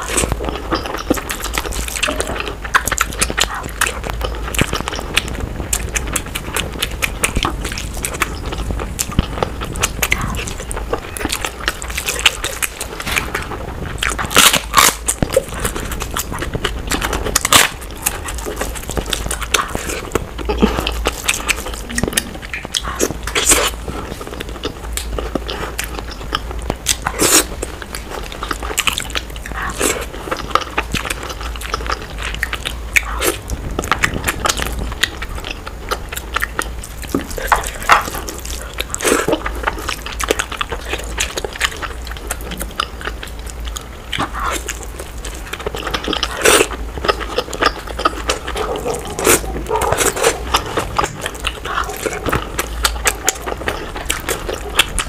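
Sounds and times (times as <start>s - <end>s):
chewing and mouth noises: 0.0s - 55.0s
crunching bites: 0.0s - 55.0s.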